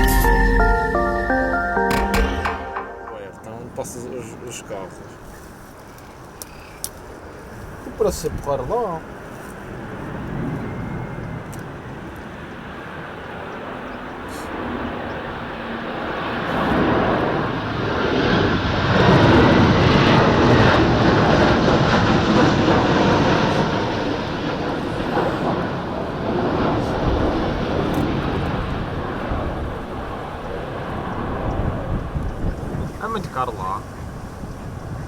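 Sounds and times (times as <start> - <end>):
jet engines passing by: 3.2 - 35.0.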